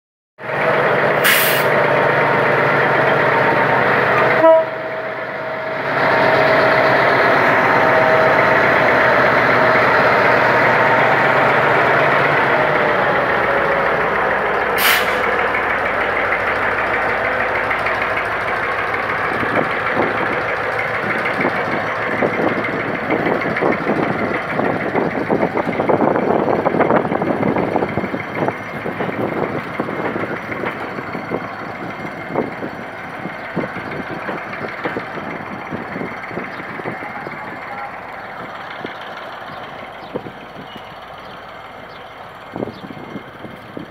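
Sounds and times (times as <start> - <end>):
diesel locomotive running under power: 0.4 - 43.9
train wheels clattering over rails: 5.3 - 43.9.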